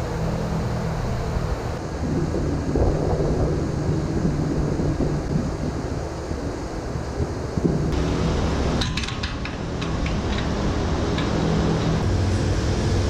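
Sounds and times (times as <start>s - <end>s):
ventilation fans droning: 0.0s - 13.0s.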